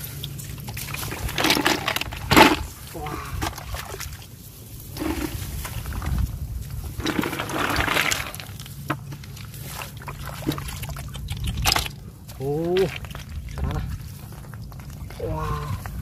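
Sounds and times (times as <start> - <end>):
steady low rumble: 0.0 - 16.0
water splashing and sloshing: 0.0 - 16.0.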